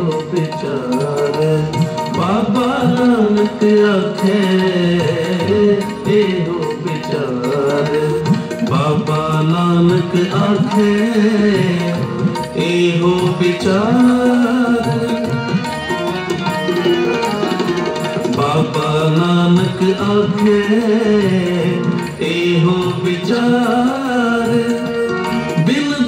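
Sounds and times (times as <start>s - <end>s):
person singing: 0.0s - 26.0s
tabla drumming: 0.0s - 26.0s.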